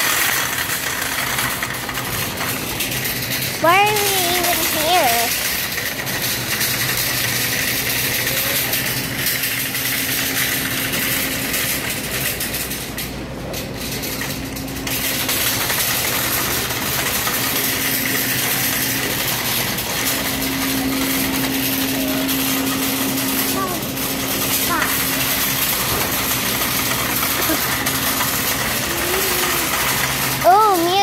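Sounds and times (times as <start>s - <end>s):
shopping cart rattling over floor: 0.0s - 31.0s
steady hum: 0.0s - 31.0s.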